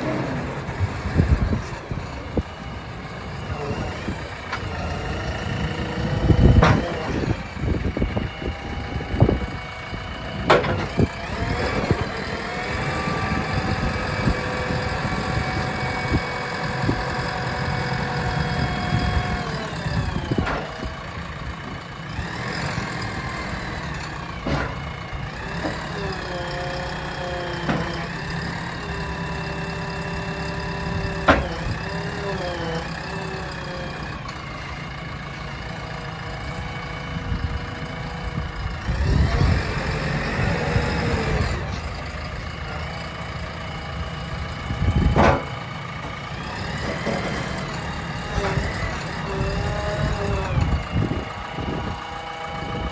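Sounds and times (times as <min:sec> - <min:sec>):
diesel engine running: 0:00.0 - 0:52.9
hydraulic whine: 0:00.0 - 0:52.9.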